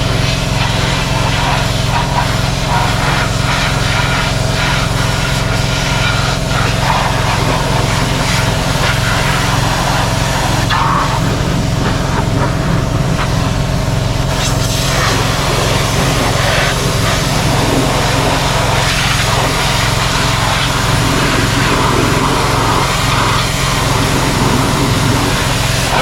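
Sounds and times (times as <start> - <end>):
engine running steadily: 0.0 - 26.0
hiss: 0.0 - 26.0.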